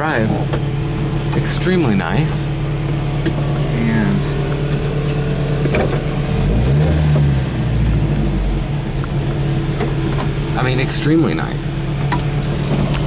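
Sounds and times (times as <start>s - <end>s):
car engine running at low speed: 0.0s - 13.0s.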